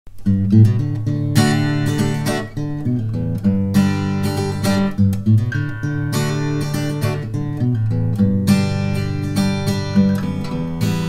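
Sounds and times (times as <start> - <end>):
strummed acoustic guitar music: 0.1 - 11.0.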